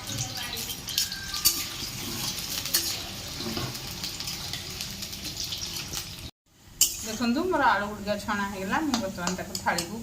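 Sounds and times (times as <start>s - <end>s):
potatoes sizzling in hot oil: 0.0s - 10.0s.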